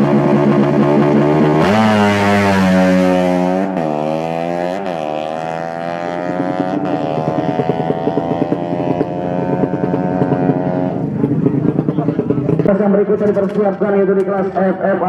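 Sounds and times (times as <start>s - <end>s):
motorcycle engine revving through gears: 0.0s - 12.7s.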